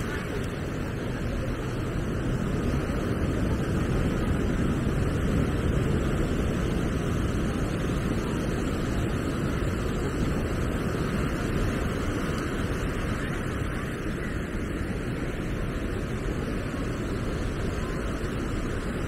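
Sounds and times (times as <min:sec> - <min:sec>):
surf washing: 0:00.0 - 0:19.0
wind buffeting microphone: 0:00.0 - 0:19.0.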